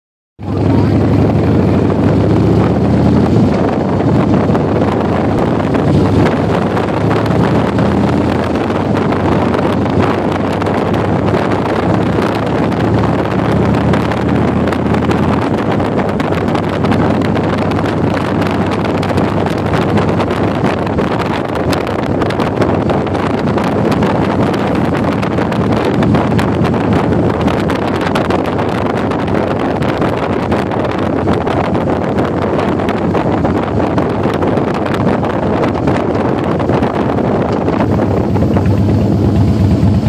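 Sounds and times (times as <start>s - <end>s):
motorcycle engine running: 0.4s - 40.0s
wind rushing over microphone: 0.4s - 40.0s.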